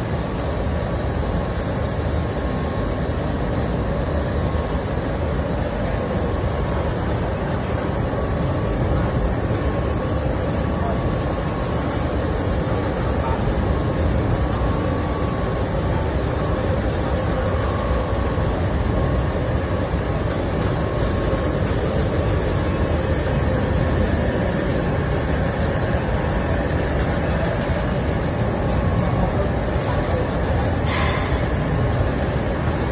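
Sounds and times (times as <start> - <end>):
industrial machinery rumble and hiss: 0.0 - 32.9.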